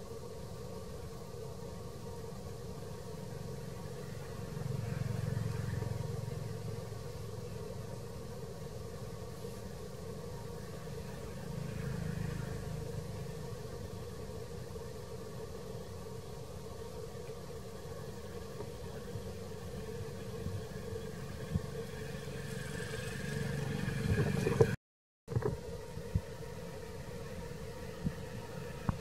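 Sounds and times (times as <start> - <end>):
constant hum: 0.0 - 29.0.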